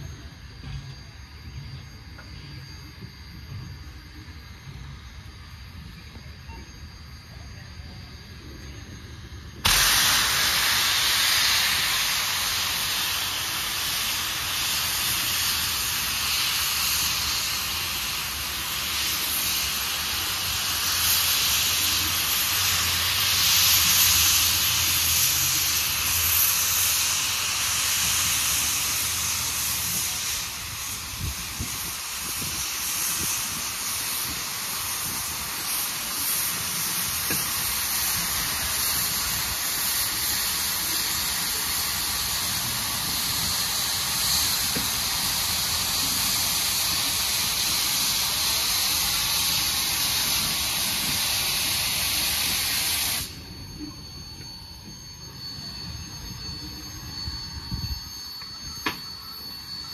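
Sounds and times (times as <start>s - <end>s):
steam hissing from locomotive: 0.0s - 59.9s.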